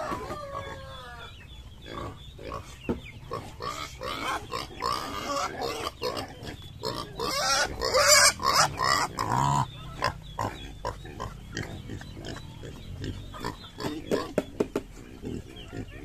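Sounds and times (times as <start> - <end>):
pigs grunting and squealing: 0.0 - 16.0.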